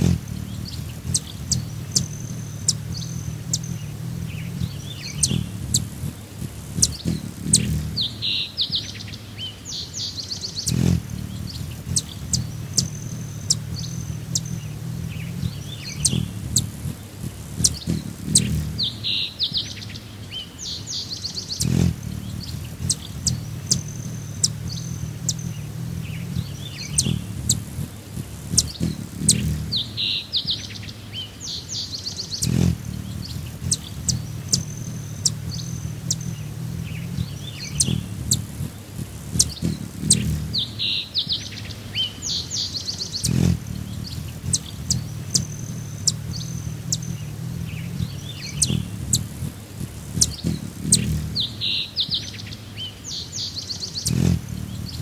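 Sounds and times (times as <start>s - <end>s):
low steady hum: 0.0s - 9.7s, 10.4s - 20.6s, 21.4s - 31.2s, 32.4s - 41.1s, 43.2s - 51.7s
songbirds chirping and trilling: 0.0s - 55.0s.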